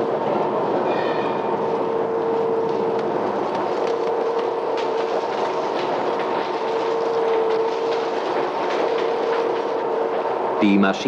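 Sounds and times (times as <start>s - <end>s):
machine hum: 0.0s - 11.0s
printing machinery clattering: 1.8s - 11.0s.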